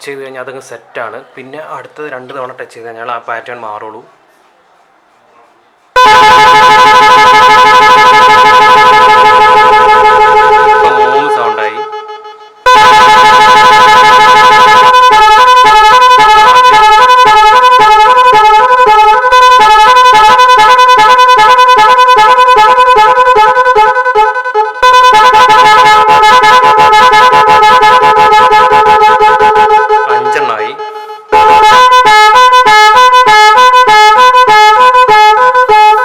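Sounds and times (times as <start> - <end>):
two-tone vehicle horn: 6.0 - 36.0.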